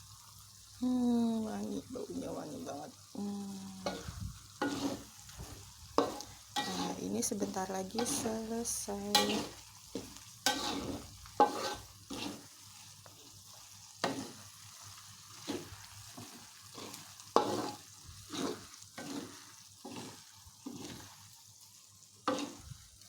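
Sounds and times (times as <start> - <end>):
paste sizzling in a pan: 0.0 - 23.0
spatula scraping pan: 3.7 - 21.4, 22.2 - 23.0.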